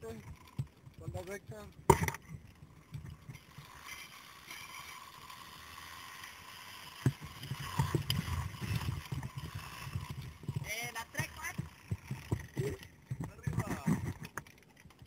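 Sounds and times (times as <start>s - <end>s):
zipline pulleys whirring on cable: 0.0s - 15.0s.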